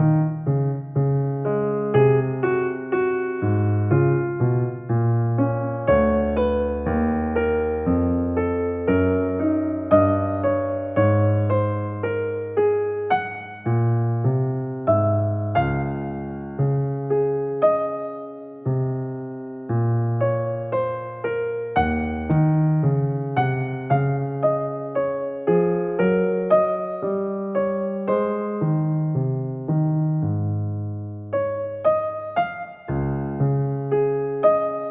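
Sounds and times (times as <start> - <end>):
slow gentle piano melody: 0.0 - 34.9.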